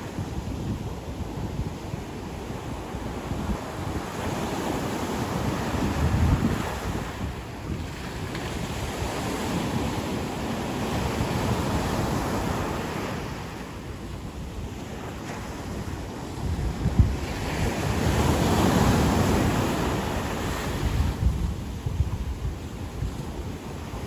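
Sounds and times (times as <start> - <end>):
waves breaking on beach: 0.0 - 24.0
wind rumbling on microphone: 0.0 - 24.0.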